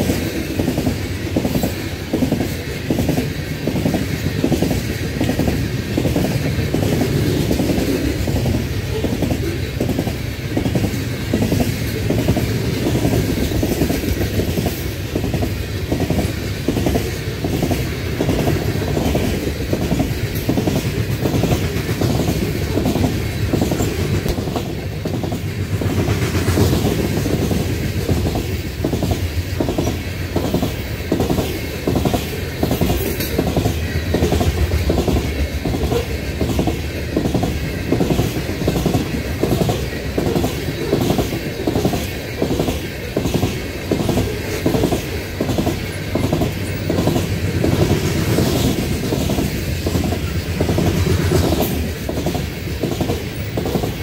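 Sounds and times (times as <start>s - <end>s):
train cars rumbling past: 0.0s - 54.0s
wheels clacking over rail joints: 0.0s - 54.0s.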